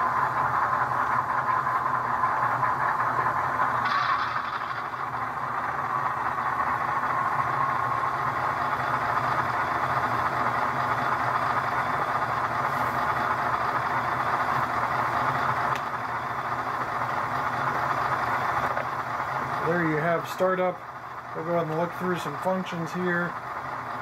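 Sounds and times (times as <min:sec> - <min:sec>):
model diesel engine sound: 0:00.0 - 0:24.0.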